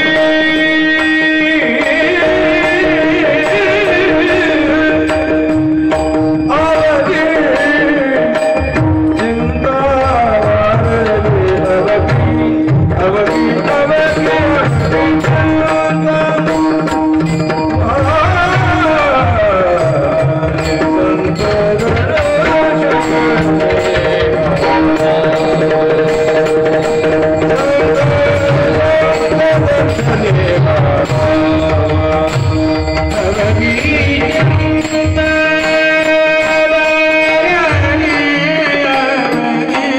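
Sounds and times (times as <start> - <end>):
men singing long sliding notes: 0.0 - 16.9, 17.8 - 39.9.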